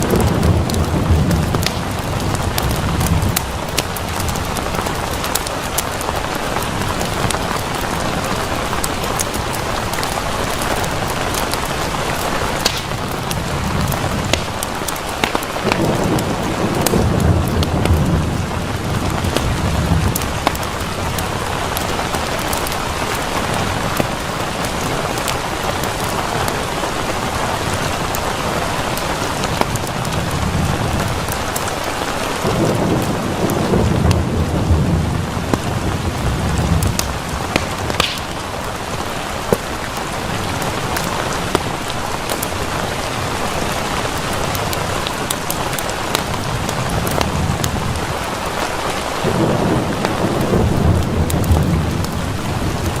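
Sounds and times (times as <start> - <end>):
heavy rain: 0.0 - 53.0
thunder rumbling: 0.0 - 53.0.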